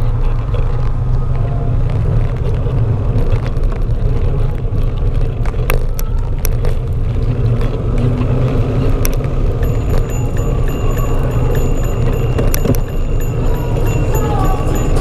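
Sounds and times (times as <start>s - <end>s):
wind and road rumble: 0.0s - 15.0s.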